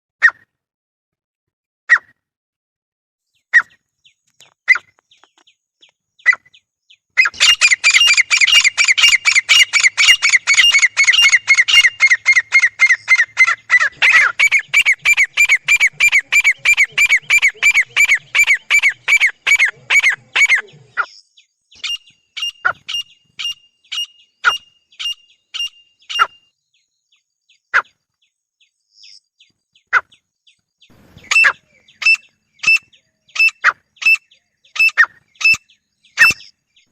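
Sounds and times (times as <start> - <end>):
francolins calling: 3.4 - 36.9.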